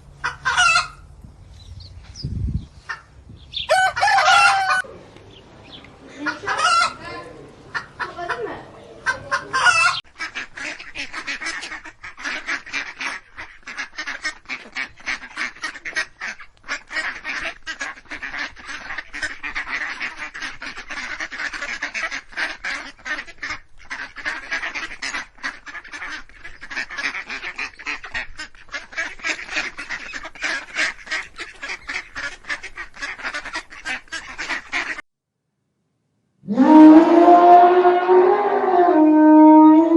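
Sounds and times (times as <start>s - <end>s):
geese honking and quacking: 0.0s - 1.1s, 2.8s - 35.0s.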